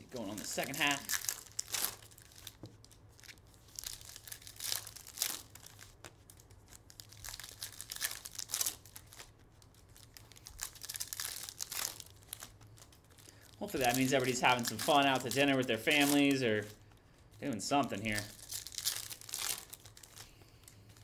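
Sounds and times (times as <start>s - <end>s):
foil wrappers tearing and crinkling: 0.2s - 21.0s.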